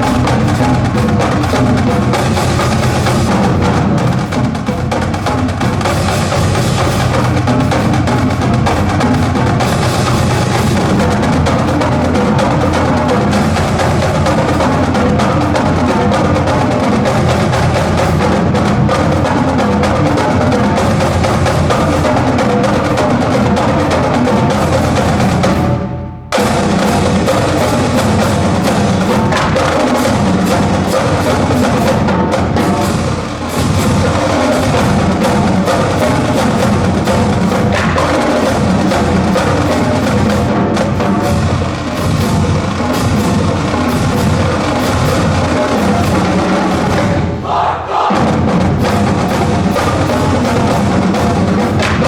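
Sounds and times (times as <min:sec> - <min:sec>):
marching drumline cadence: 0:00.0 - 0:52.0.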